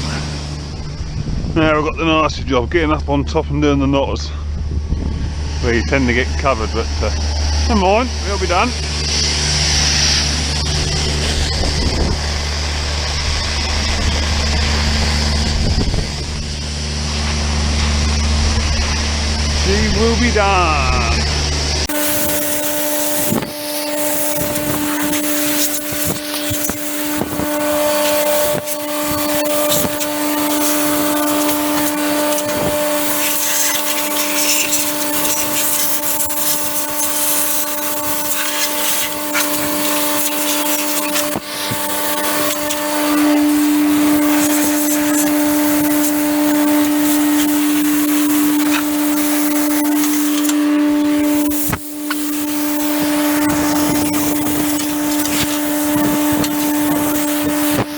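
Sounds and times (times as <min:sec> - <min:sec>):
air compressor humming: 0:00.0 - 0:57.9
air blow gun hissing: 0:04.3 - 0:57.9.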